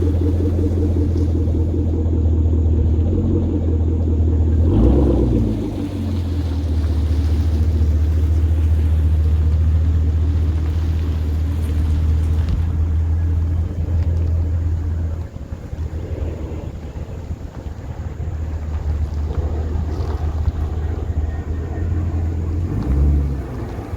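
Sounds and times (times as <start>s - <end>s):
deep droning car exhaust: 0.0s - 23.9s.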